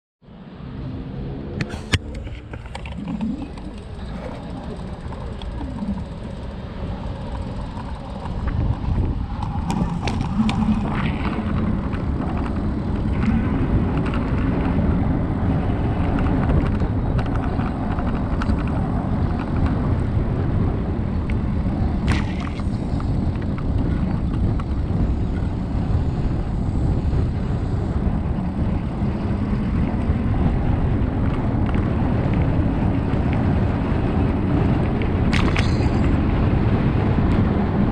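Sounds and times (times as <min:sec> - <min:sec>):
wind rumbling on microphone: 0:00.3 - 0:37.9
e-bike tyre noise: 0:01.5 - 0:37.9.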